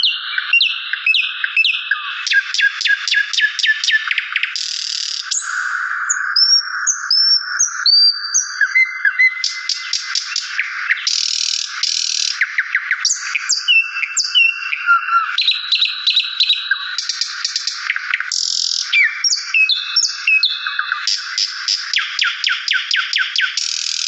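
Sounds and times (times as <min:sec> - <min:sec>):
small birds chirping and trilling: 0:00.0 - 0:24.0.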